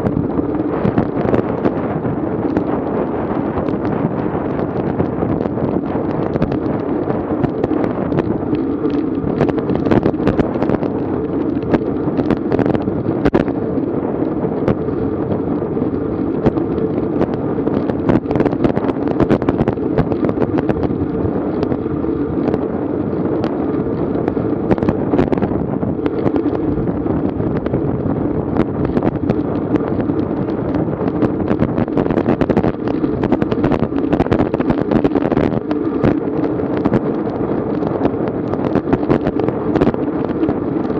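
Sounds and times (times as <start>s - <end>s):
wind buffeting microphone: 0.0s - 40.9s
small knocks and crackles: 3.6s - 40.9s.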